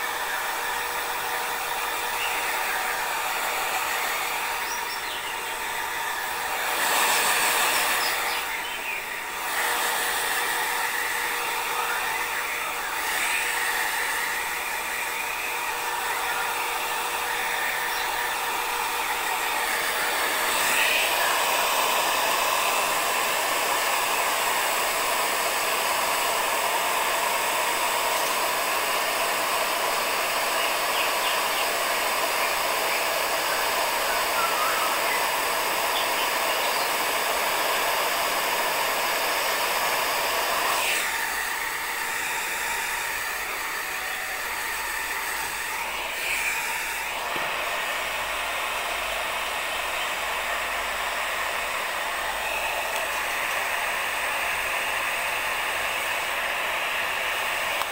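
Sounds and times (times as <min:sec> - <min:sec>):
hair dryer blowing: 0:00.0 - 0:57.9.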